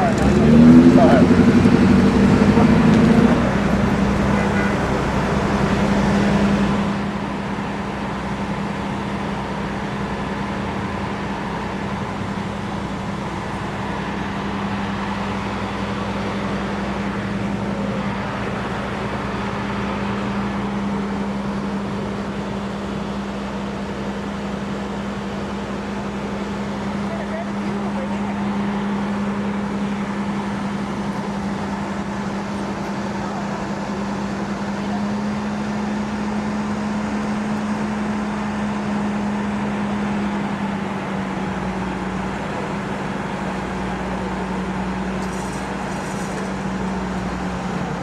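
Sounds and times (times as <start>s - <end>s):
engine hum: 0.0s - 48.0s.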